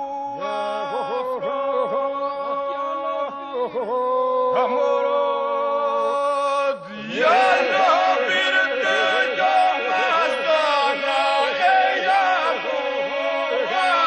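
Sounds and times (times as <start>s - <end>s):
group singing a drone: 0.4s - 14.0s
lead voices singing: 0.4s - 14.0s.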